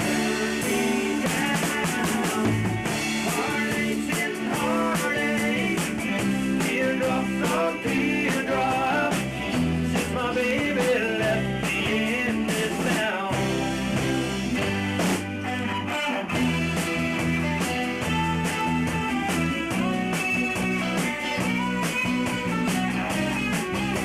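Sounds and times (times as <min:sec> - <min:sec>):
rock band playing live: 0:00.0 - 0:24.0.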